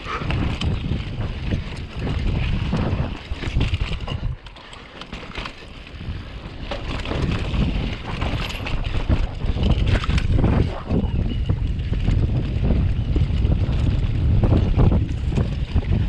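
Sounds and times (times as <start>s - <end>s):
bike rattling over rough ground: 0.0s - 16.0s
wind rumbling on microphone: 0.0s - 16.0s.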